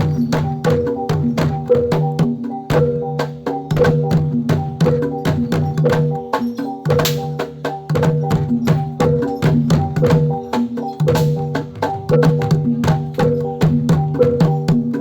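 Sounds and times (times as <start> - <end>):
drum and wooden strokes: 0.0 - 15.0
gamelan music: 0.0 - 15.0
ringing metal notes: 0.0 - 15.0.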